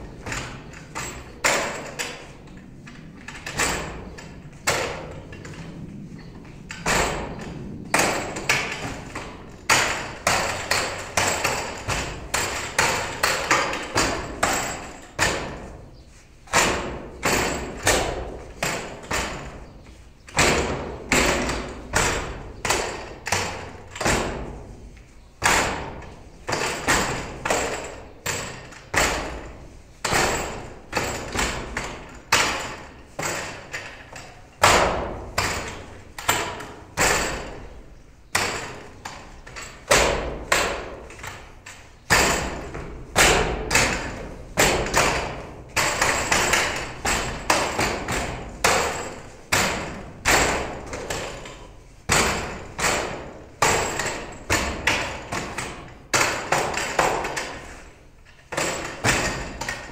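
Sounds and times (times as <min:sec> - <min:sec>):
sharp wooden knocks: 0:00.0 - 0:59.9.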